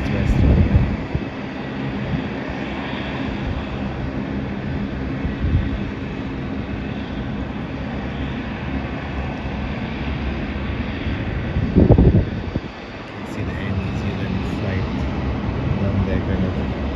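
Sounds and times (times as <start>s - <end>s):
jet engines rushing: 0.0s - 16.9s.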